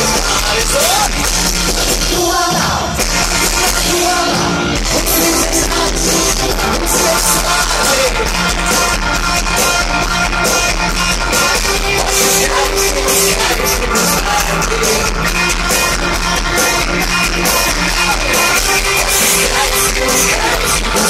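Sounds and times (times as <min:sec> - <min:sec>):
lead vocal singing: 0:00.0 - 0:21.0
live rock band playing: 0:00.0 - 0:21.0.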